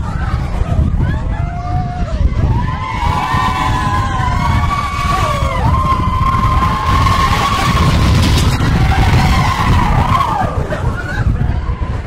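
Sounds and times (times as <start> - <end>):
roller coaster rumbling on track: 0.0 - 12.0
wind noise: 0.0 - 12.0.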